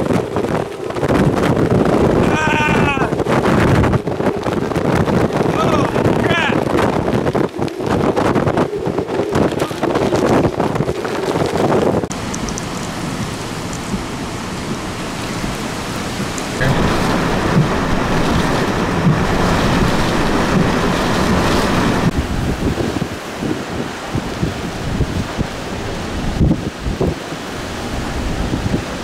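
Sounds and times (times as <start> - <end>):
heavy rain: 0.0 - 29.0
hurricane wind: 0.0 - 29.0
wind buffeting microphone: 0.0 - 29.0.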